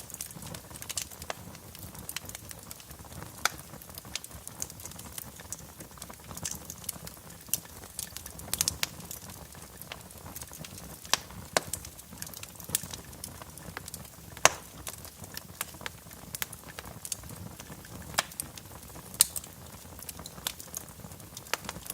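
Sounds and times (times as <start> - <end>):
low fire rumble: 0.0 - 21.9
wood fire crackling and popping: 0.0 - 21.9.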